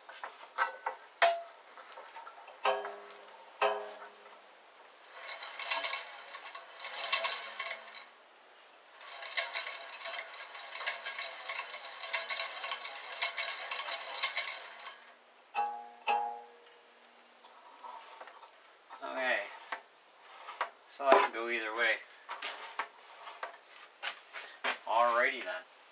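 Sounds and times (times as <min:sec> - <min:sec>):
bandsaw blade rattling on wheels: 0:00.0 - 0:04.3, 0:05.0 - 0:08.2, 0:08.9 - 0:16.4, 0:17.7 - 0:23.8.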